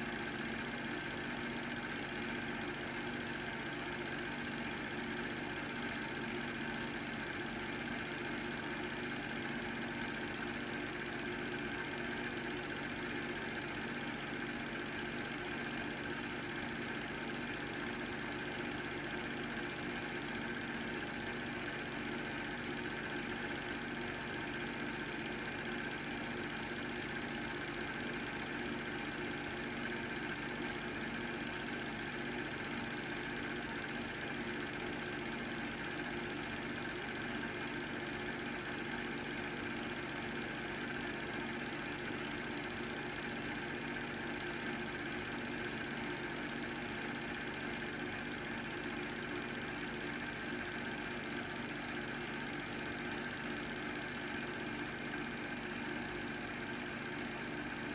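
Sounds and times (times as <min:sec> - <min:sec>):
film projector hum: 0:00.0 - 0:57.9.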